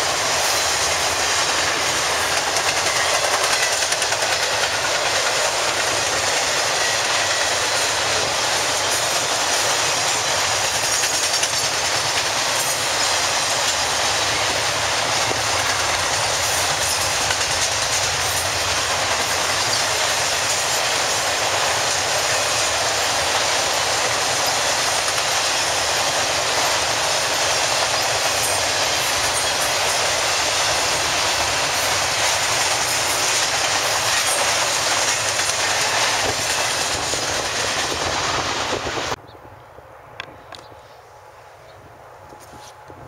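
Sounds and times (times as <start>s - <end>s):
freight train wheels on rail: 0.0s - 43.0s.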